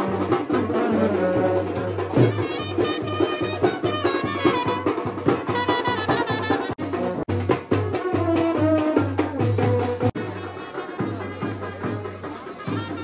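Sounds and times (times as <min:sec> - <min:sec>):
brass horns playing melody: 0:00.0 - 0:07.2, 0:07.9 - 0:13.0
steady drum beat: 0:00.0 - 0:13.0.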